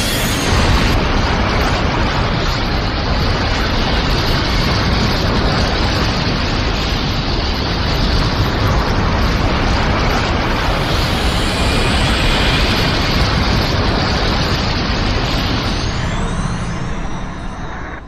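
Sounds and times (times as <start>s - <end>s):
dense explosive rumble: 0.0s - 18.0s.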